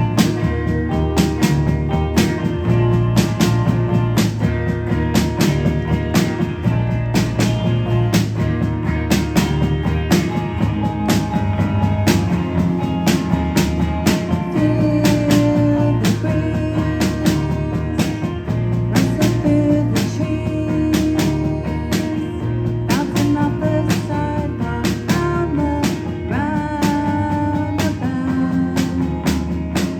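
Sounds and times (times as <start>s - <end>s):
live guitar rock music: 0.0s - 29.9s.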